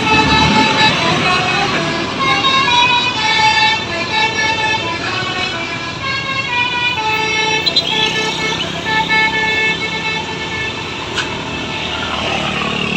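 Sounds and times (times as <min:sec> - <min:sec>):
bus melody horn playing tune: 0:00.0 - 0:12.0.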